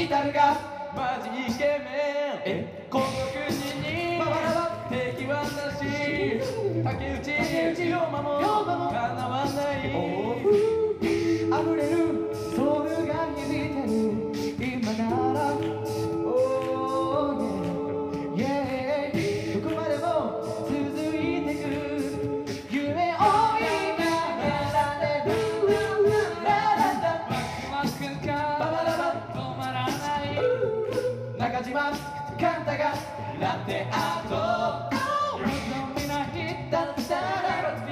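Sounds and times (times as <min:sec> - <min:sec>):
vocal group singing in harmony: 0:00.0 - 0:37.9
vocal percussion beat: 0:00.0 - 0:37.9.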